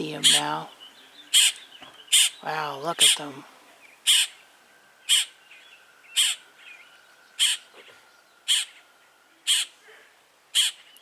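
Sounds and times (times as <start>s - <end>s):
bird calling: 0.0s - 11.0s.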